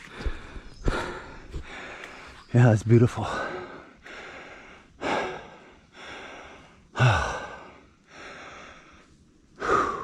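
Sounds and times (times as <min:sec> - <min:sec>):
man breathing hard: 0:00.0 - 0:02.4, 0:03.2 - 0:10.0.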